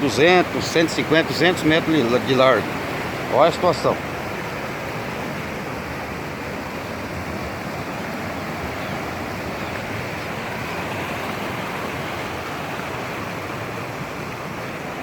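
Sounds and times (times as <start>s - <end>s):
river water pouring over rocks: 0.0s - 15.0s.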